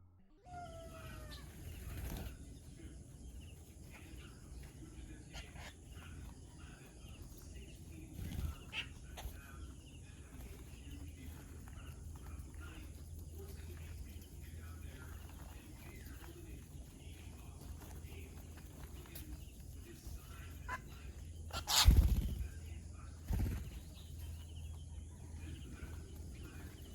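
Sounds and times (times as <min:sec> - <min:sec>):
low steady hum: 0:00.0 - 0:26.9
bird chirps: 0:00.5 - 0:26.9.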